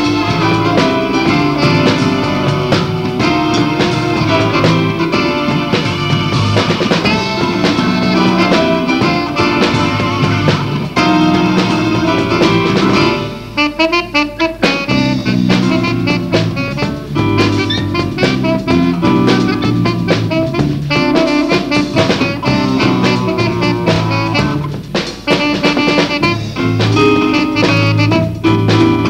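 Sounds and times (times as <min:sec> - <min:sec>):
bass line: 0:00.0 - 0:29.0
drum kit: 0:00.0 - 0:29.0
saxophone lead: 0:00.0 - 0:29.0.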